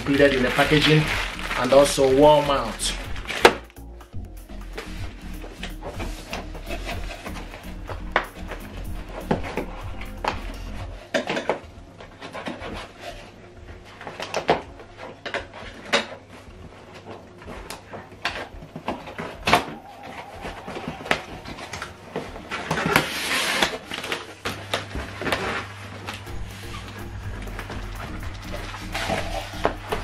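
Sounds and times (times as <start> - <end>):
packing materials rustling: 0.0 - 4.0, 4.7 - 30.0.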